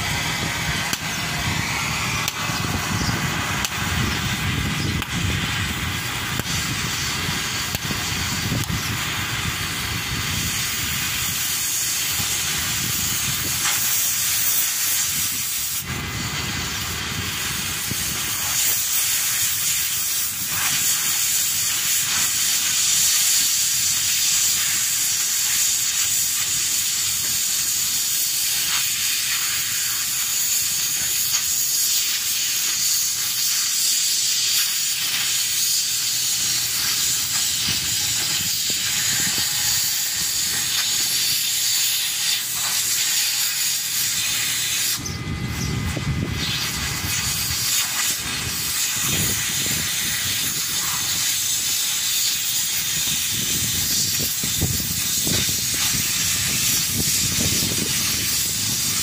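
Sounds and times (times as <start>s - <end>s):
cutting torch hissing: 0.0s - 59.0s.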